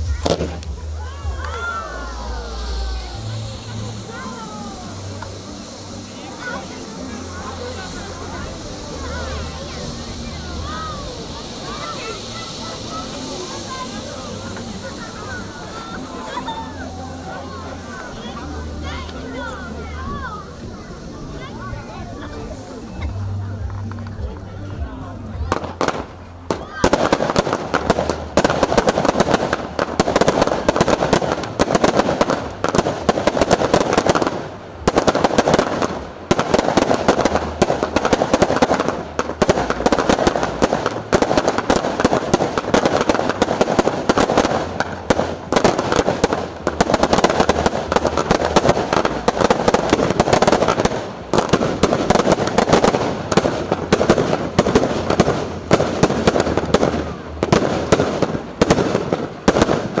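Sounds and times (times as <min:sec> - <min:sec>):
fireworks bangs and crackling: 0:00.0 - 1:00.0.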